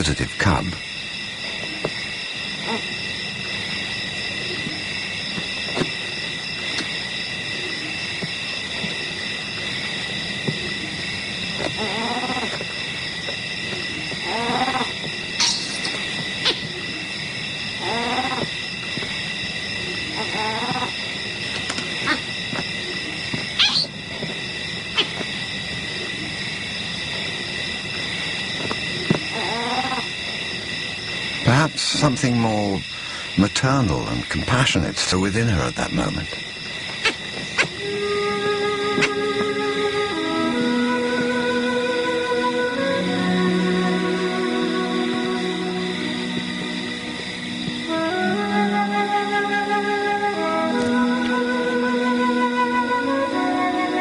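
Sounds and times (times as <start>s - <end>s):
shrill insect chorus: 0.0s - 54.0s.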